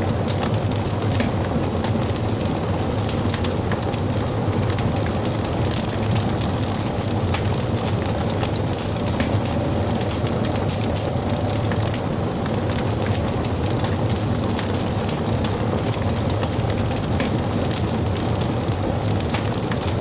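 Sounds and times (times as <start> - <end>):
burning wood crackling and popping: 0.0 - 20.0
wood fire rumbling: 0.0 - 20.0.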